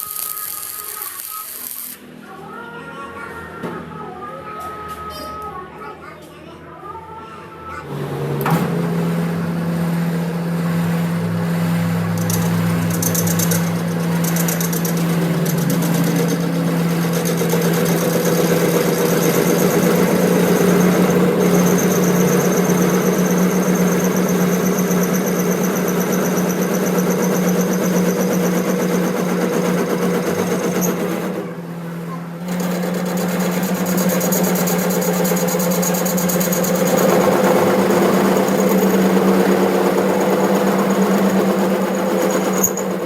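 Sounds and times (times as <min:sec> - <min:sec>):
machine motor humming: 0:00.0 - 0:02.2, 0:07.8 - 0:43.0.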